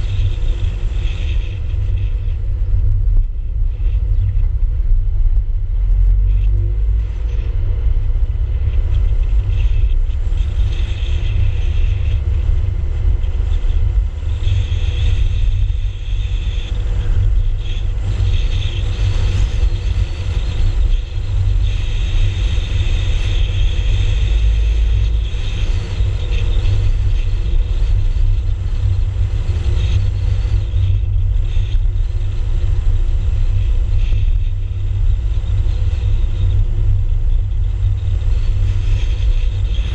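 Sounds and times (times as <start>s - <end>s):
car wind and road noise: 0.0s - 39.9s
faint high whine: 0.0s - 39.9s.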